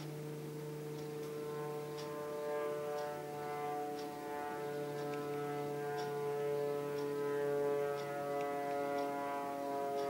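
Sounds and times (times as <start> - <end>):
faint clock ticking: 0.0 - 10.0
droning horn-like tones: 0.7 - 10.0.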